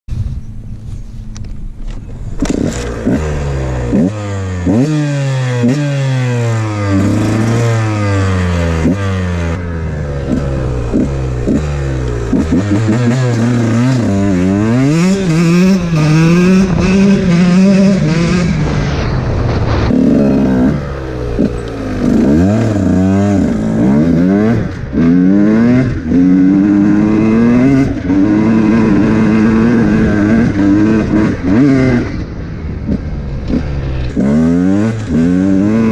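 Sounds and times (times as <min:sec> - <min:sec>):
motorcycle engine accelerating: 0:00.1 - 0:35.9.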